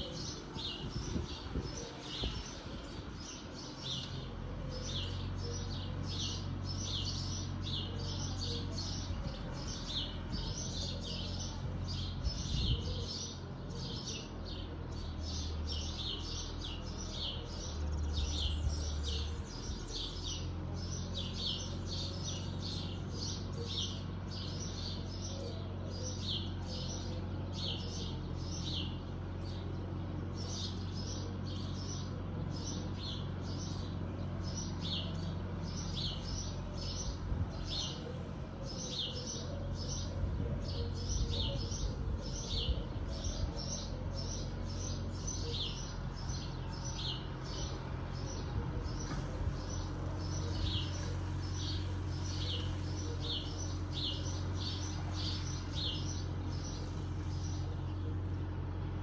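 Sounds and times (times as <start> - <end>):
bird chirping: 0.0 - 58.5
distant tractor mower drone: 0.0 - 59.0.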